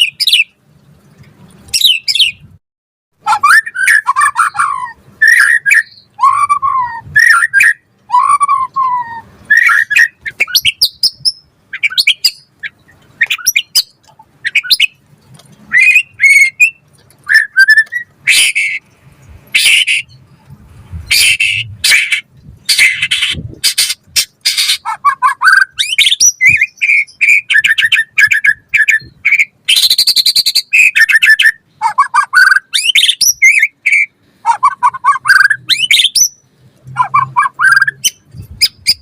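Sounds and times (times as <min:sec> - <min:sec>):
bird singing whistled phrases: 0:01.7 - 0:02.4, 0:03.3 - 0:15.0, 0:15.7 - 0:18.8, 0:21.1 - 0:36.4, 0:37.0 - 0:39.0
harsh rasping bird calls: 0:03.2 - 0:15.0, 0:15.7 - 0:20.4, 0:21.1 - 0:39.0.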